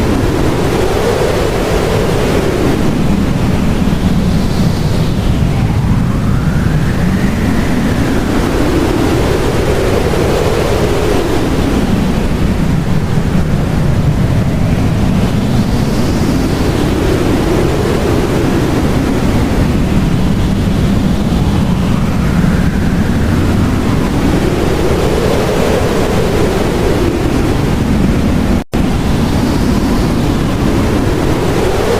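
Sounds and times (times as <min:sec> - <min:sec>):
blizzard wind blowing hard: 0:00.0 - 0:31.9
deep rumble: 0:00.0 - 0:31.9.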